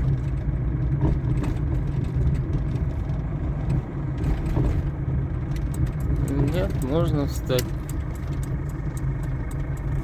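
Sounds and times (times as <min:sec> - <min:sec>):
engine and road rumble: 0:00.0 - 0:10.0.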